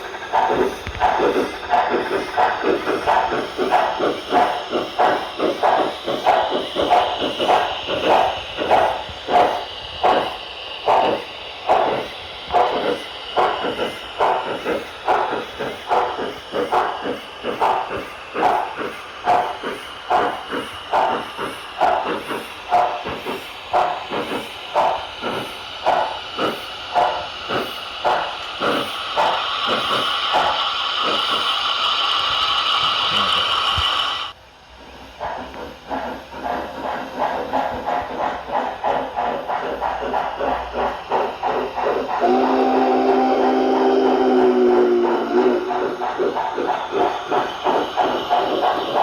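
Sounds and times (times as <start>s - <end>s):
model steam locomotive exhaust chuff: 0.0s - 49.0s
steam hiss: 0.0s - 49.0s.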